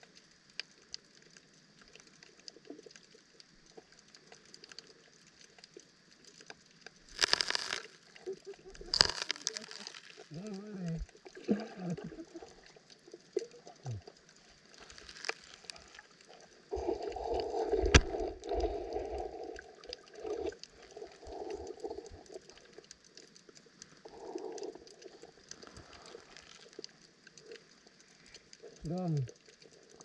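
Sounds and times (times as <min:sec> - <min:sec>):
faint ticks: 0:00.0 - 0:30.0
underwater water movement: 0:00.0 - 0:30.0.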